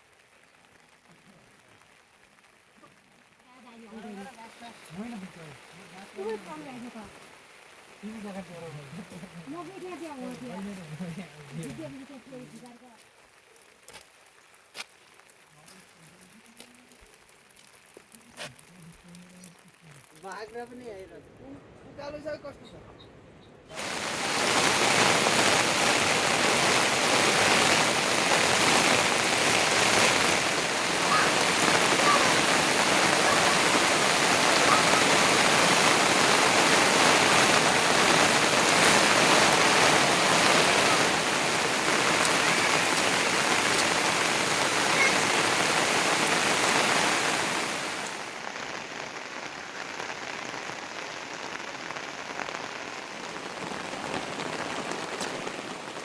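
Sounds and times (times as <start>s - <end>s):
heavy rain hissing: 0.0s - 21.2s, 23.7s - 56.0s.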